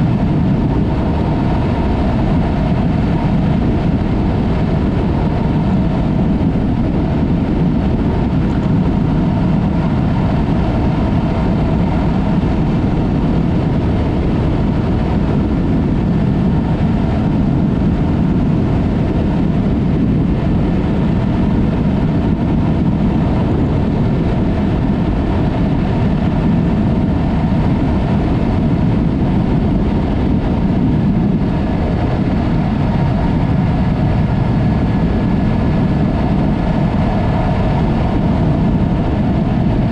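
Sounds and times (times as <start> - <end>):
motorcycle engine drone: 0.0 - 39.9
rushing wind noise: 0.0 - 39.9.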